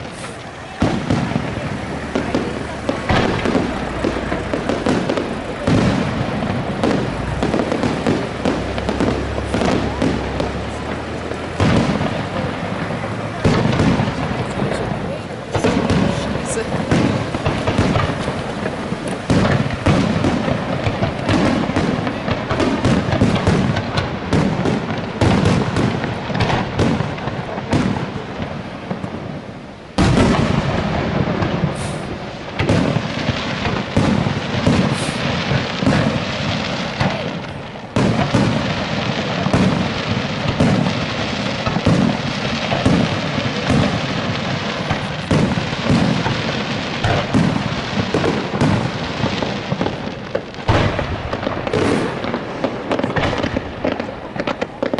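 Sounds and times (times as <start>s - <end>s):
fireworks bursts and bangs: 0.0s - 54.9s.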